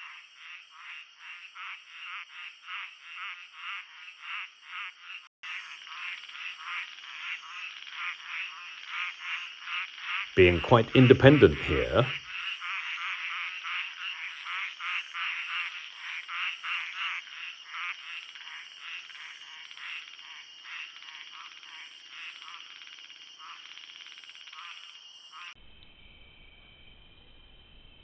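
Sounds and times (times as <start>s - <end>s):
frogs croaking: 0.0s - 28.0s.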